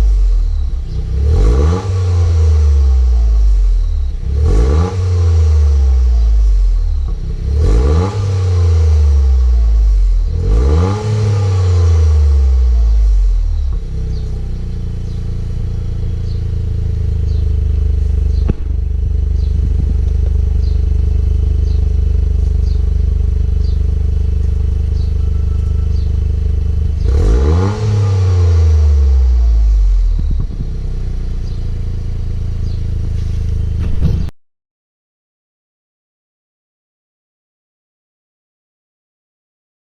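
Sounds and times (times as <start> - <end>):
car engine idling and revving: 0.0 - 34.3.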